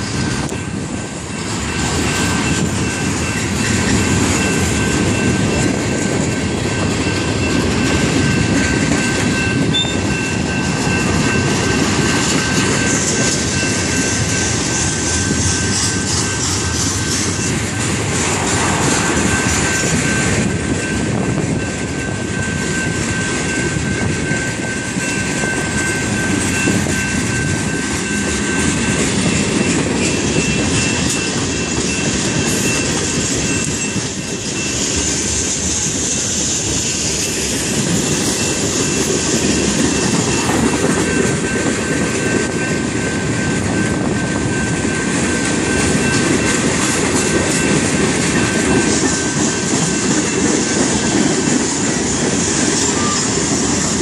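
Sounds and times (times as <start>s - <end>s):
crossing bell ringing: 0.0s - 54.0s
train wheels rumbling on rails: 0.0s - 54.0s.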